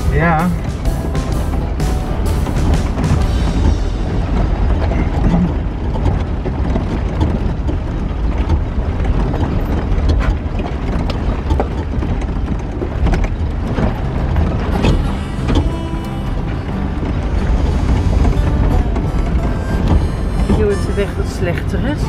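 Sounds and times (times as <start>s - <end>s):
vehicle body rattling and knocking: 0.0s - 22.0s
vehicle engine and road rumble: 0.0s - 22.0s.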